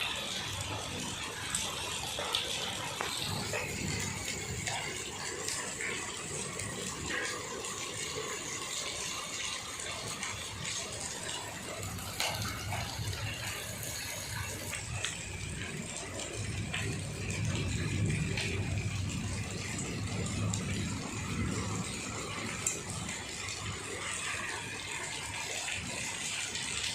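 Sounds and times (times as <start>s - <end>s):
rain drops ticking on hard surfaces: 0.0s - 26.9s.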